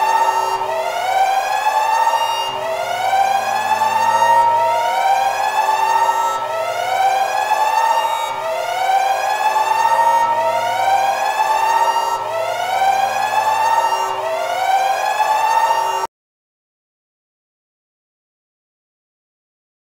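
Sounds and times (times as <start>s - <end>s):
emergency siren wailing: 0.0s - 16.1s.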